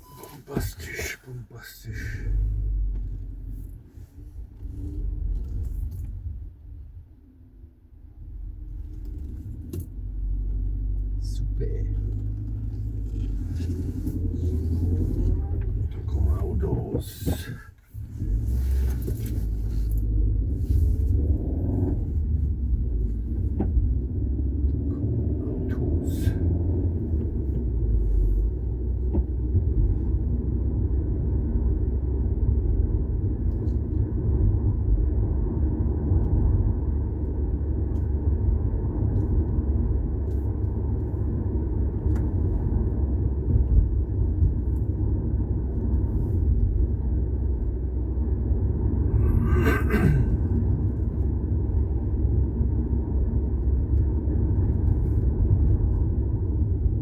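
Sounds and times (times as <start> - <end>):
car road and running noise: 0.0 - 57.0.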